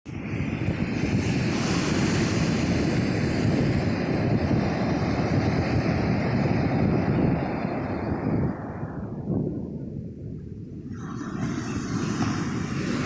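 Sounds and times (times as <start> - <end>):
ocean waves breaking on beach: 0.1 - 13.0
wind buffeting microphone: 0.1 - 13.0.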